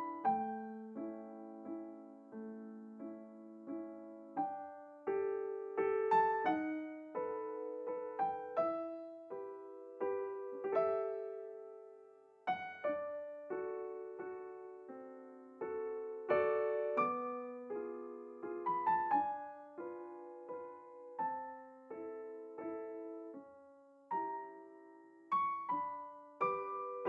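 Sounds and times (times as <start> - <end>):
solo piano melody: 0.0 - 27.0.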